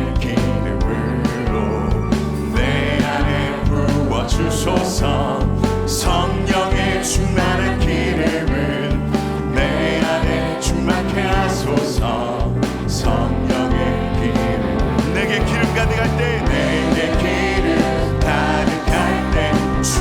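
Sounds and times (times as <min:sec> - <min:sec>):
people singing: 0:00.0 - 0:20.0
worship band playing: 0:00.0 - 0:20.0.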